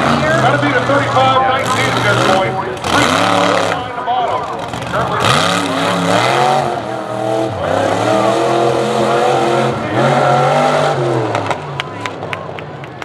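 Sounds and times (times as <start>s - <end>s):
truck engine revving hard: 0.0s - 12.6s.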